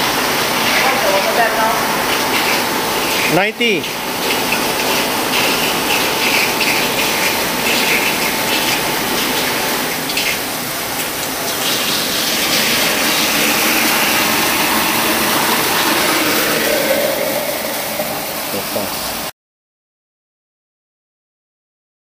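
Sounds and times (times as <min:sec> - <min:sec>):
water gushing through roof drain: 0:00.0 - 0:19.3.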